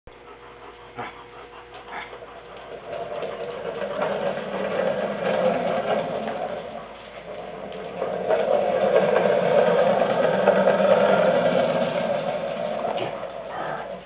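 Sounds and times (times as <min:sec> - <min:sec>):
dog growling: 0:00.1 - 0:14.0
casters rolling on concrete: 0:01.7 - 0:14.0.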